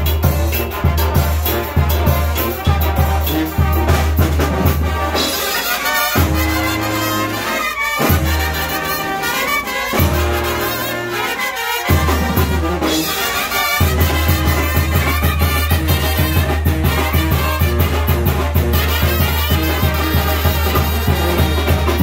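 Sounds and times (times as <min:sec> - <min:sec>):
brass band playing dance music: 0:00.0 - 0:22.0
tuba bass notes: 0:00.0 - 0:22.0.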